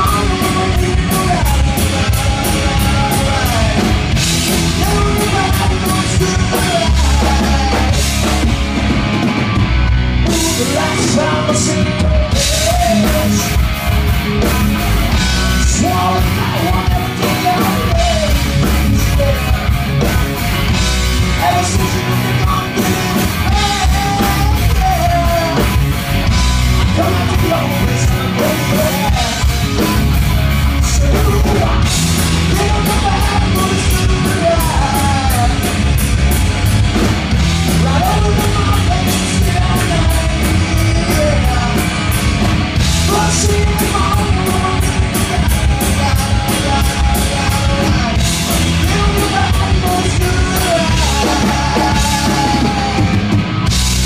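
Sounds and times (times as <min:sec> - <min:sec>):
person singing: 0:00.0 - 0:08.6, 0:10.2 - 0:13.7, 0:14.5 - 0:25.9, 0:26.8 - 0:30.1, 0:30.7 - 0:36.0, 0:37.3 - 0:42.2, 0:43.0 - 0:53.3
bass guitar: 0:00.0 - 0:54.0
drums: 0:00.0 - 0:54.0
electric guitar: 0:00.0 - 0:54.0.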